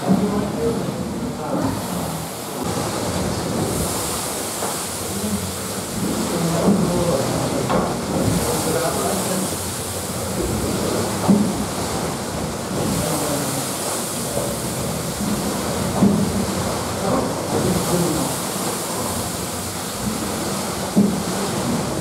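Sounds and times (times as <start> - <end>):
steam engine machinery rushing: 0.0 - 22.0.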